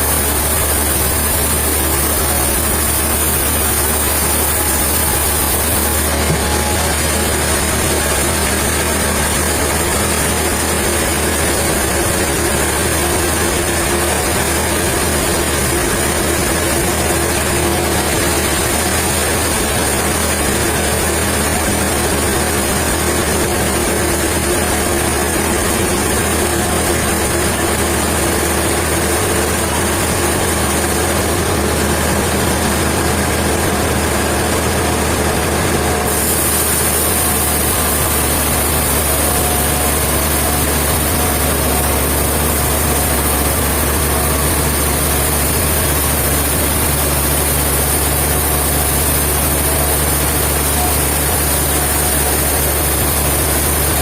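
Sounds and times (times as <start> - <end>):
heavy engine idling: 0.0 - 54.0.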